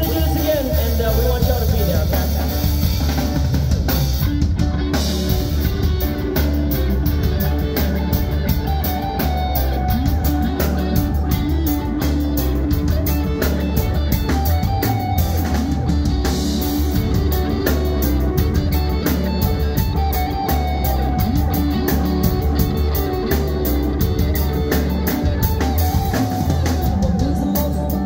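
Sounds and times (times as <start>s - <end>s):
drum kit beat: 0.0s - 28.0s
electric guitars: 0.0s - 28.0s
keyboards: 0.0s - 28.0s.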